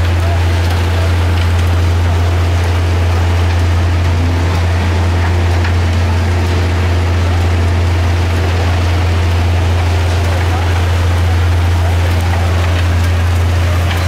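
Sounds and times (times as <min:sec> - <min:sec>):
heavy diesel machinery drone: 0:00.0 - 0:14.0.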